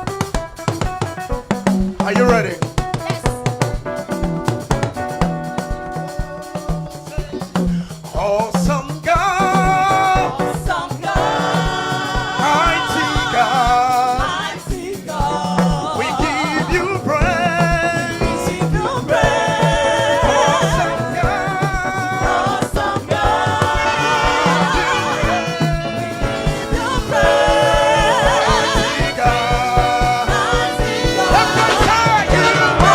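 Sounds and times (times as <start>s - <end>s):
band playing over steady beat: 0.0s - 32.9s
gospel choir singing: 1.7s - 32.9s.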